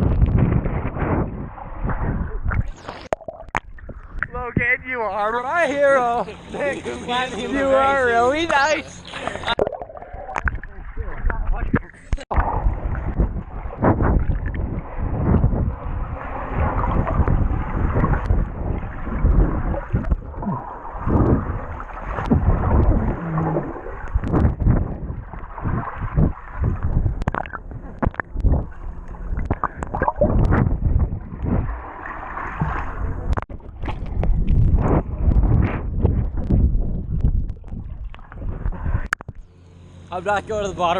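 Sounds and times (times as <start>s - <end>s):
muffled pool water sloshing: 0.0s - 40.9s.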